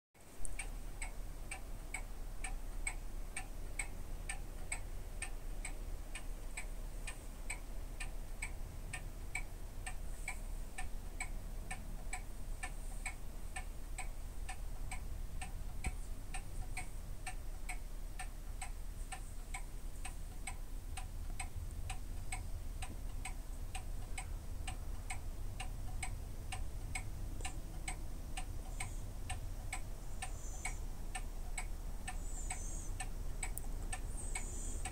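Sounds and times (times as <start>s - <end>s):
low steady hum: 0.2s - 34.9s
regular ticking: 0.2s - 34.9s.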